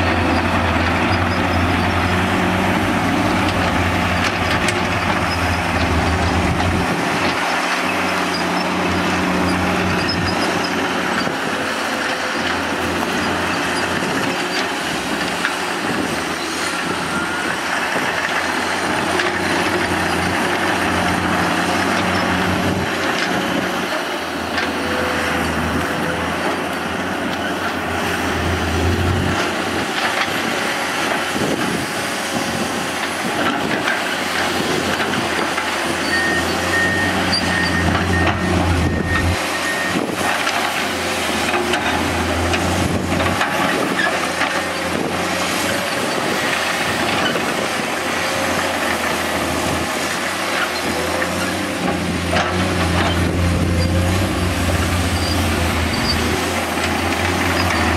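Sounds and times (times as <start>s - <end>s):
machinery squeals and clanks: 0.0s - 30.4s, 32.4s - 57.9s
excavator diesel engines running: 0.0s - 57.9s.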